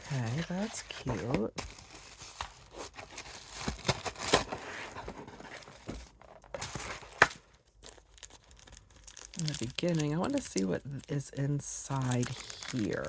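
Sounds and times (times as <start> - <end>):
paper and packaging crinkling: 0.0 - 13.0.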